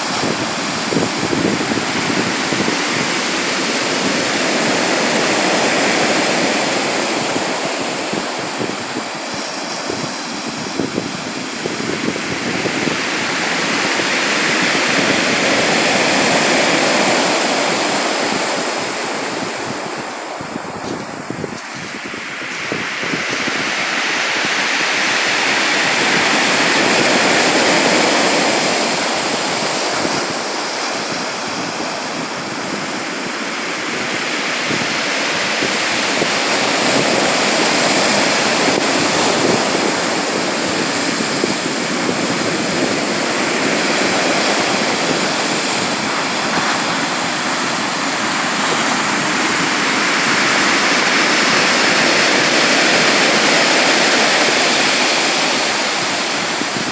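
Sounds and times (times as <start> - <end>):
sea surf washing ashore: 0.0 - 56.9.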